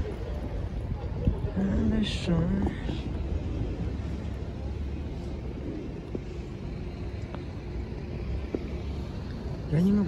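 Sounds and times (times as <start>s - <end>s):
low rumble of street noise: 0.0s - 10.0s.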